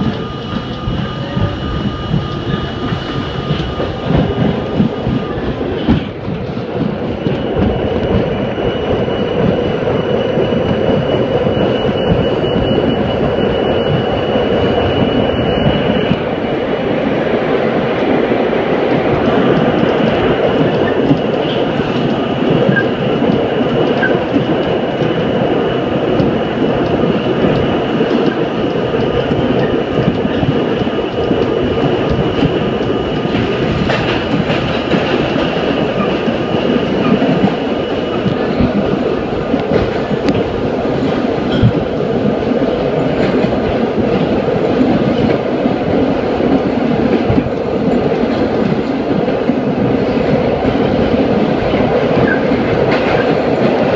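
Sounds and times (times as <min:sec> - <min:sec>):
rail joint clicks: 0:00.0 - 0:53.9
subway train rumble: 0:00.0 - 0:53.9.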